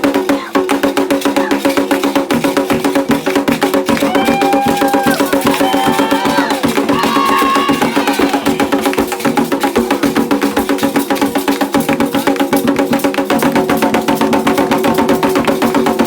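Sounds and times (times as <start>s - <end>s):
fast ceremonial drumming: 0.0s - 16.0s.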